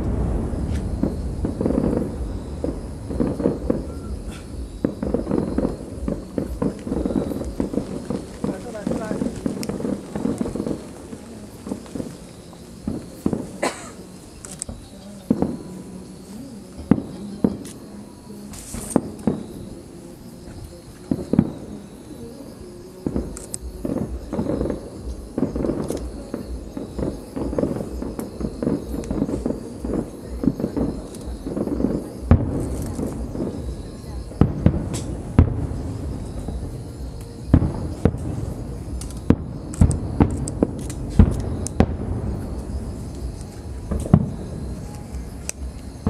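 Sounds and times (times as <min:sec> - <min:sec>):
fireworks bangs: 0:00.0 - 0:19.9, 0:20.5 - 0:46.0
crowd murmur: 0:00.0 - 0:46.0.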